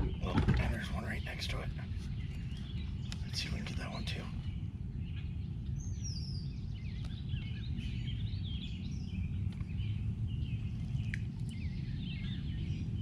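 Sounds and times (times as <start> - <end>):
low outdoor rumble: 0.0 - 13.0
songbirds chirping and singing: 0.0 - 13.0.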